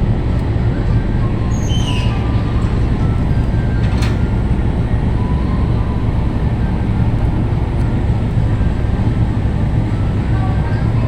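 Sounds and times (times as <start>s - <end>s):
ship engine drone: 0.0s - 11.0s.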